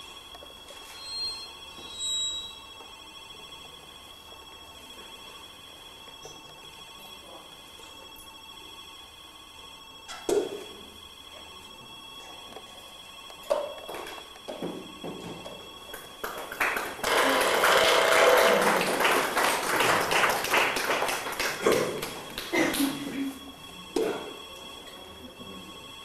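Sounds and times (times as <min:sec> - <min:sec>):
ringing string drone: 0:00.4 - 0:21.3.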